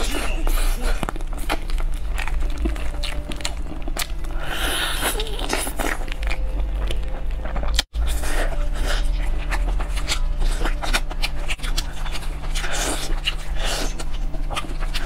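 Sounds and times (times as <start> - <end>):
low hum: 0.0 - 15.0
person chewing: 0.0 - 15.0.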